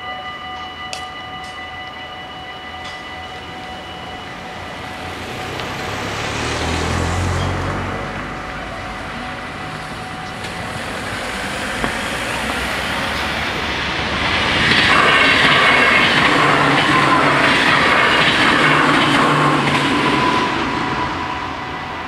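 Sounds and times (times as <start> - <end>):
train wheels rumbling on rails: 0.6 - 22.0.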